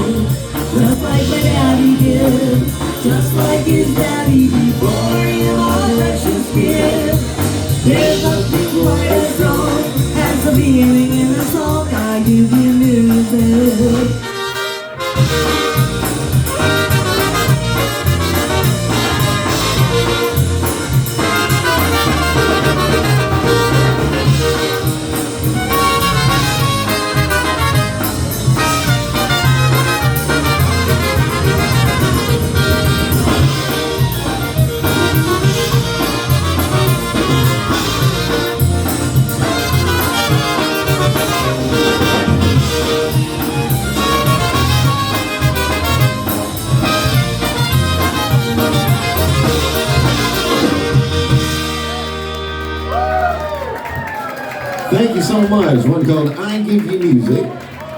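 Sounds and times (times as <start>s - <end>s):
polka band playing: 0.0s - 57.7s.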